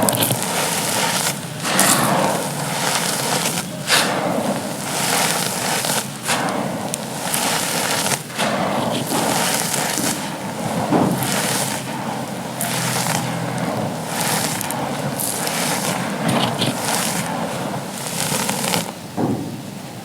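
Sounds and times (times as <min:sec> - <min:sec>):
charcoal being crushed: 0:00.0 - 0:19.2.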